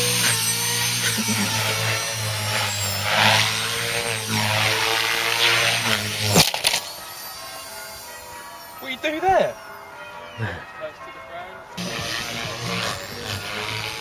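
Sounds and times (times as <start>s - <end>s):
model motor running steadily: 0.0s - 9.1s, 11.8s - 14.0s.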